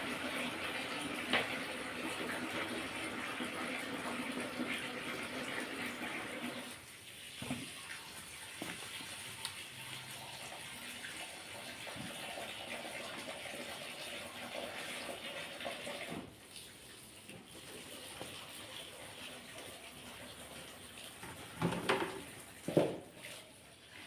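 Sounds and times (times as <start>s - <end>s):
tap water running into sink: 0.0s - 23.6s.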